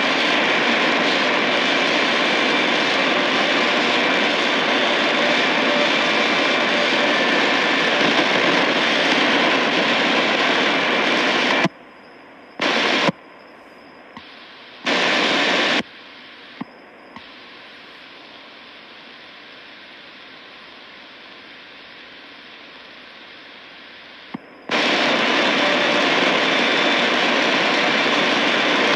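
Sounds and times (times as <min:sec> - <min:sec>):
radio static hiss: 0:00.0 - 0:28.9.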